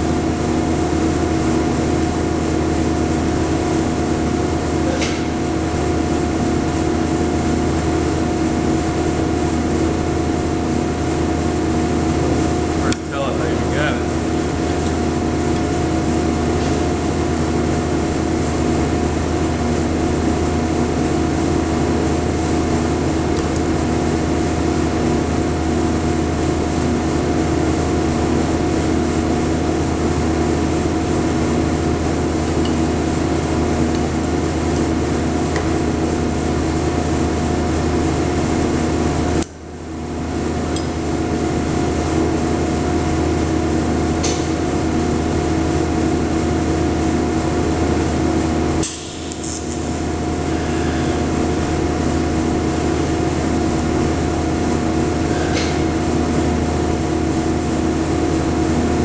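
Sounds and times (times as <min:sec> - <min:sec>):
electrical machine hum: 0:00.0 - 0:59.0.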